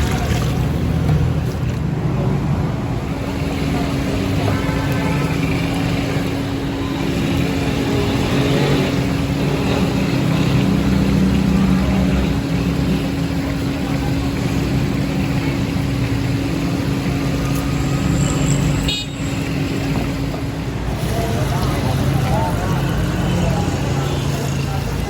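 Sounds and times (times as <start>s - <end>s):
street noise: 0.0s - 25.0s
vehicle engine humming: 0.0s - 25.0s.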